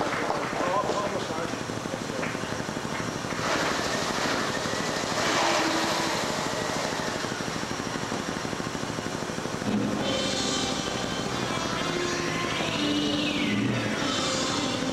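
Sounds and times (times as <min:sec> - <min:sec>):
harsh electronic noise: 0:00.0 - 0:14.9.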